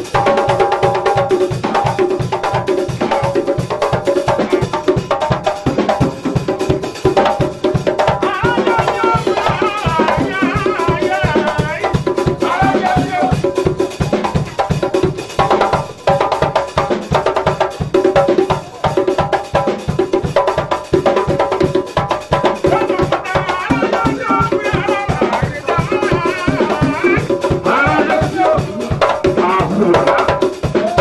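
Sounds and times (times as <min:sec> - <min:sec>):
hand drums and drum kit: 0:00.0 - 0:31.0.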